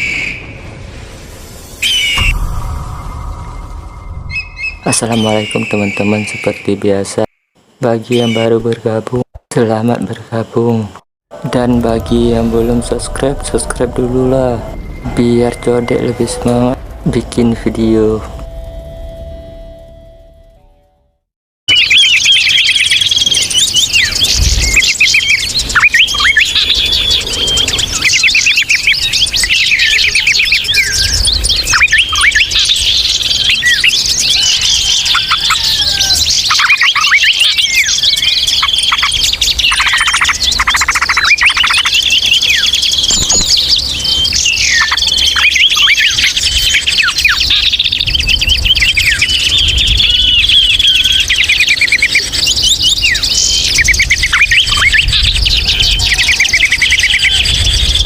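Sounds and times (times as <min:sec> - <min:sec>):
songbirds chirping and trilling: 0:00.0 - 0:18.2, 0:21.7 - 0:58.0.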